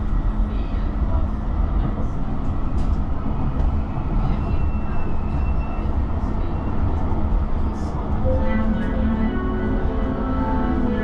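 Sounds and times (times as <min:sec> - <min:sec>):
tram rumbling on track: 0:00.0 - 0:11.0.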